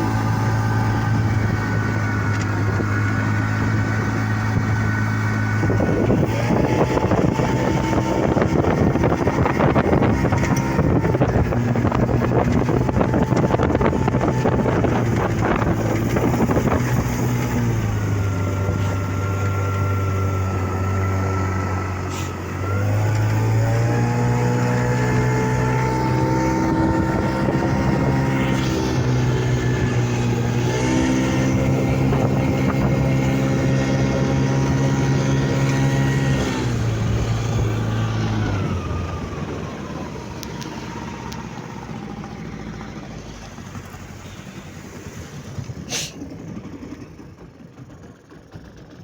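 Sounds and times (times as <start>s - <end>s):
outboard motor running: 0.0s - 49.0s.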